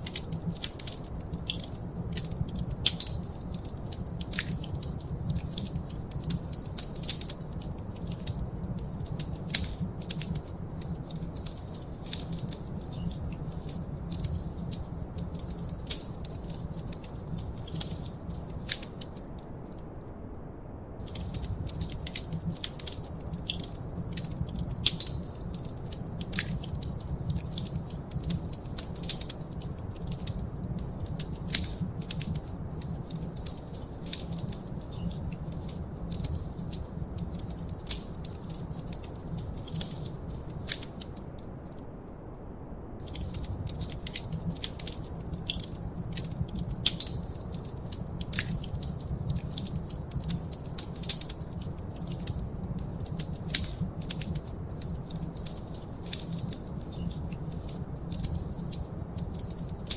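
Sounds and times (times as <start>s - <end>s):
fire crackling and popping: 0.0s - 20.4s, 21.0s - 42.3s, 43.0s - 59.9s.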